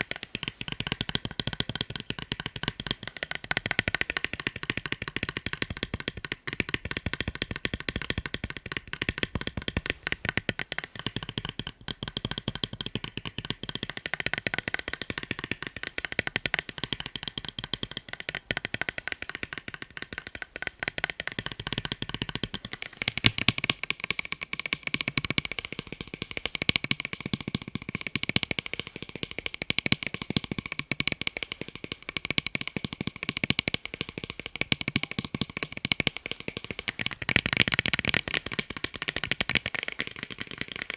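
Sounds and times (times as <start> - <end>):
tapping on eyeglasses: 0.0 - 40.9.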